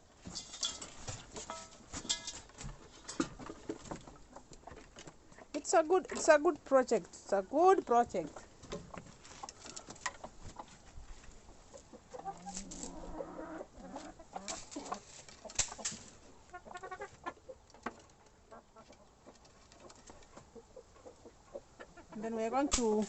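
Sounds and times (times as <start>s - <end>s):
chickens clucking: 0.2s - 23.0s.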